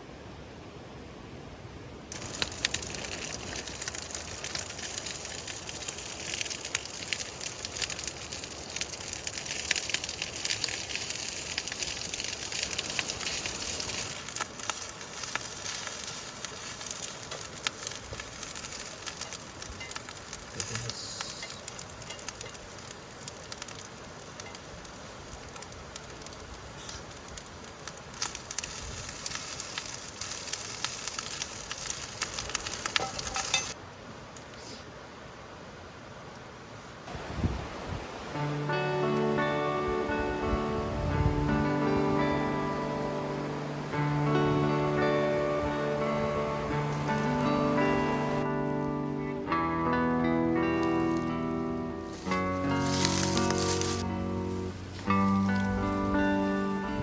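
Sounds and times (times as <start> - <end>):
wood campfire crackling: 0.1 - 57.0.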